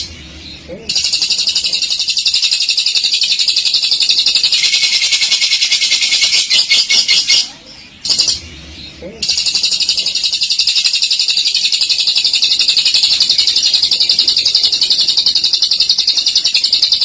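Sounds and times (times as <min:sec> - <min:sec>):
lovebird chattering trill: 0:00.0 - 0:17.0.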